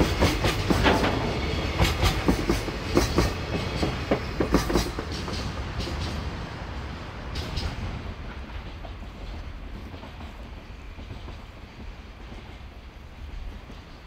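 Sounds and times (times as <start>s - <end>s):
train wheel clacks: 0.0s - 6.6s, 7.2s - 14.0s
train rumbling past: 0.0s - 14.0s.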